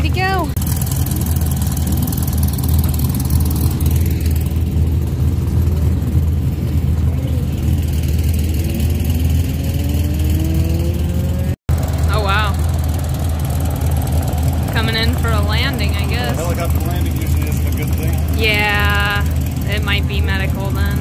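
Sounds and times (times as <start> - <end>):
race car engines idling and revving: 0.0 - 21.0.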